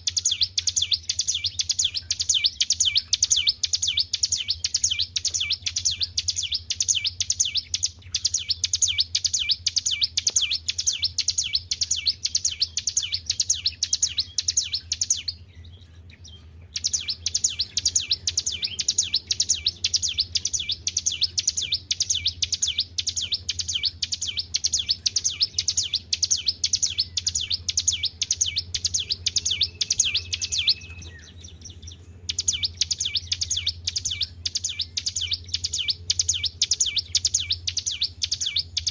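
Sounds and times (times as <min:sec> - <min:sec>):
songbird chattering: 0:00.0 - 0:38.9.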